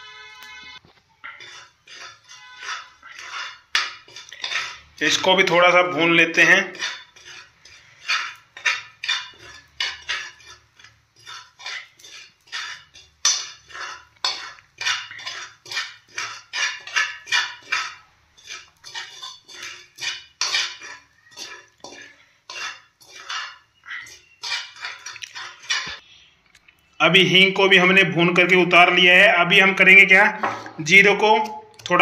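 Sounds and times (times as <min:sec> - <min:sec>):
spoon scraping metal pan: 0:00.0 - 0:26.1, 0:27.6 - 0:32.0.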